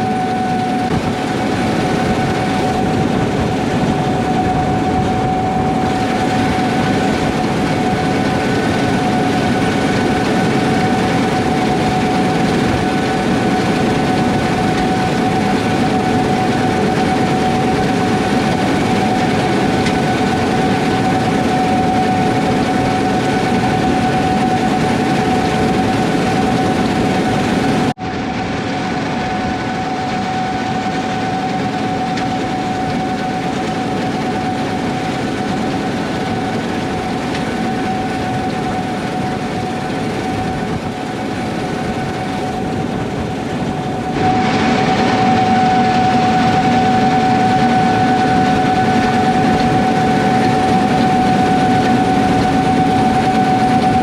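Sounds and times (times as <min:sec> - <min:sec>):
combine harvester engine drone: 0:00.0 - 0:54.0
high machine whine: 0:00.0 - 0:54.0.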